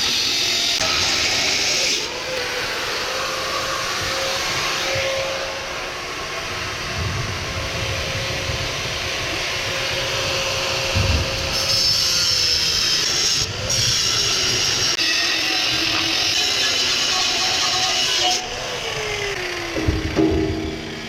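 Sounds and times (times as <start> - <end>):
grinder cutting metal: 0.0 - 21.0
grinder motor whine: 0.0 - 21.0.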